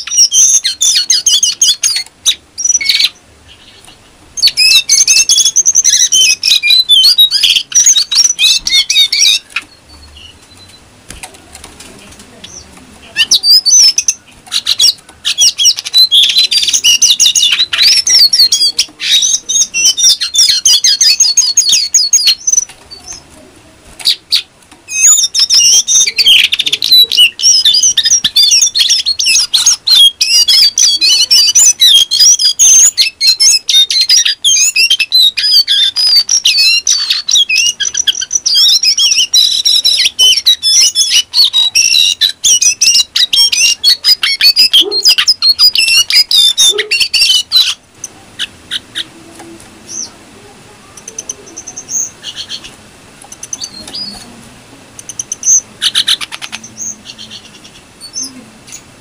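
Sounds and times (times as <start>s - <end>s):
bird twittering song: 0.0s - 11.3s, 12.3s - 23.3s, 24.0s - 49.1s, 49.9s - 50.2s, 50.9s - 54.3s, 54.9s - 58.9s.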